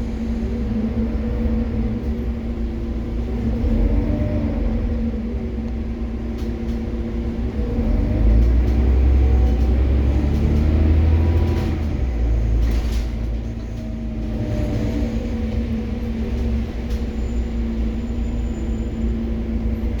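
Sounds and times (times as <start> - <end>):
city bus engine running: 0.0 - 20.0.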